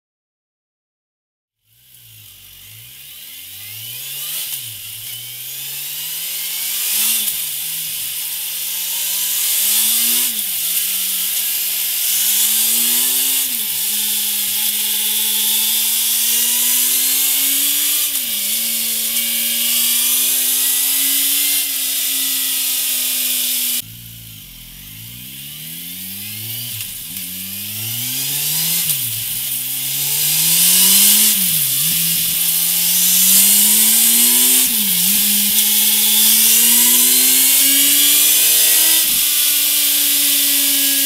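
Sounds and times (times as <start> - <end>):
motorcycle engine accelerating: 1.6 - 41.0.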